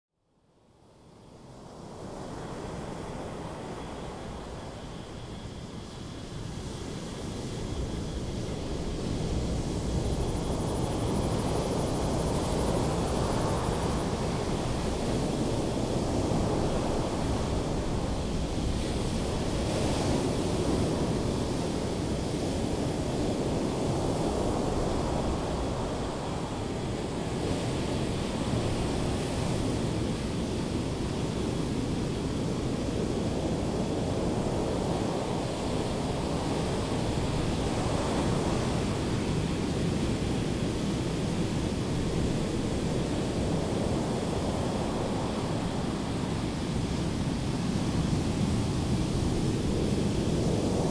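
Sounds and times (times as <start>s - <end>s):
waves breaking on a beach: 1.4s - 50.9s.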